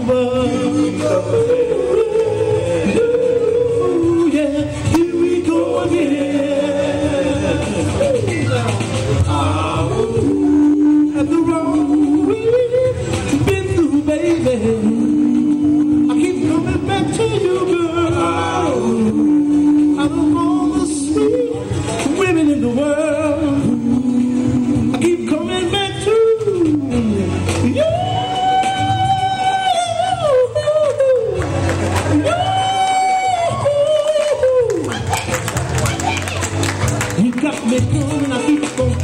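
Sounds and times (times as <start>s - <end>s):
male vocal group singing: 0.0s - 34.9s, 37.1s - 39.0s
backing track with steady beat: 0.0s - 39.0s.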